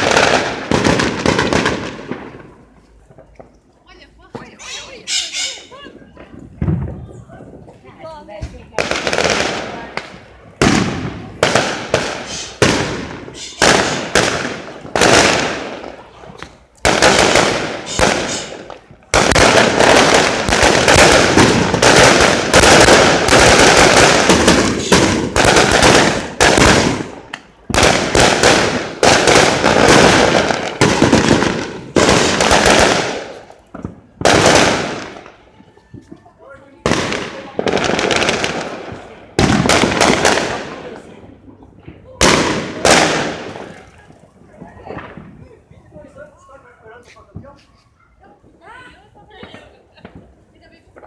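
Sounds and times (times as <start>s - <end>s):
firework rockets exploding: 0.0s - 5.0s, 6.0s - 46.5s, 48.4s - 51.0s.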